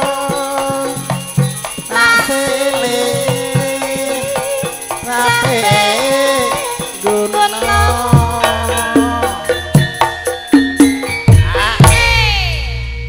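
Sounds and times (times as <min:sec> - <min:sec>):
woman singing into a microphone: 0:00.0 - 0:10.1, 0:11.4 - 0:12.8
gamelan metallophones ringing: 0:00.0 - 0:13.0.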